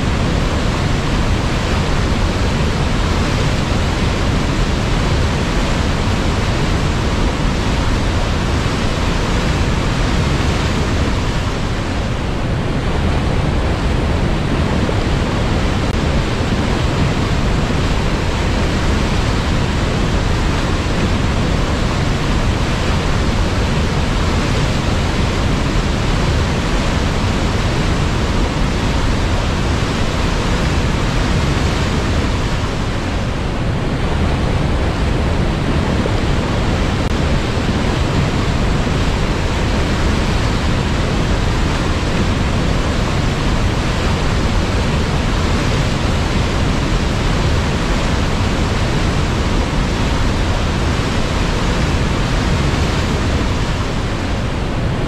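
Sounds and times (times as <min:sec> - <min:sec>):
river rushing over rapids: 0:00.0 - 0:55.0.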